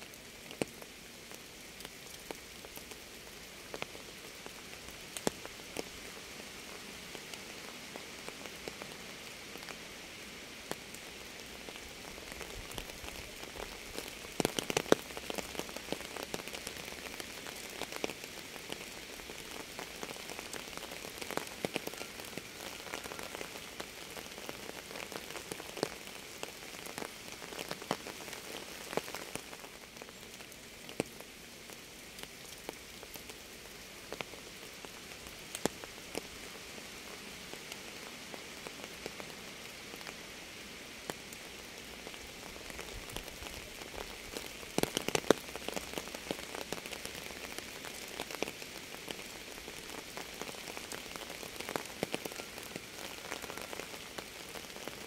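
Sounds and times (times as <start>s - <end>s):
steady rain: 0.0s - 55.0s
raindrops ticking: 0.4s - 8.9s, 11.6s - 36.6s, 42.0s - 55.0s.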